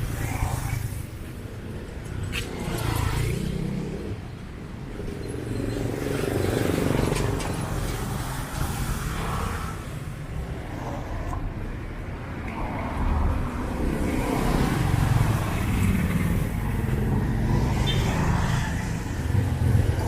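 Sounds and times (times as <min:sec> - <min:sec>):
vehicles passing on street: 0:00.0 - 0:20.0.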